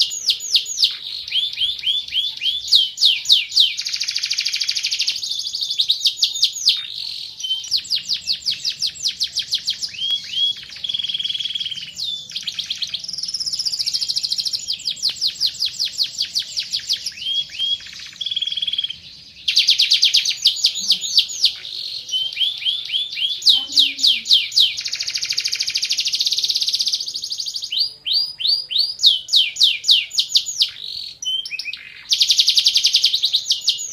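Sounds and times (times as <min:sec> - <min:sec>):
canary singing rapid trills: 0:00.0 - 0:33.9.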